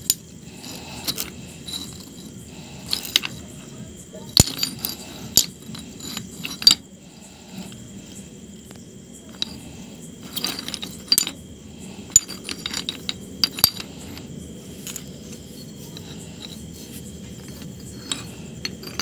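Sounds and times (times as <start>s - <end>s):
stone bars clinking and scraping: 0.0s - 19.0s.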